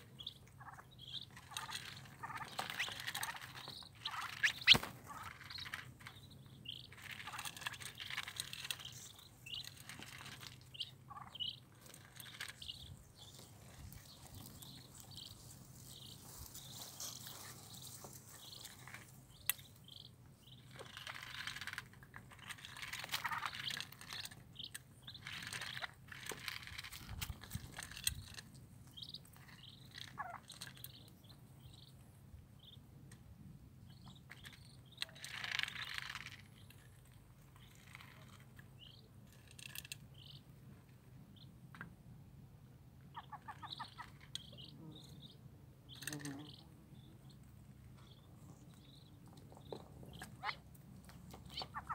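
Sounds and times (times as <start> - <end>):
ducklings peeping: 0.0 - 32.9, 33.8 - 41.9, 42.9 - 51.9.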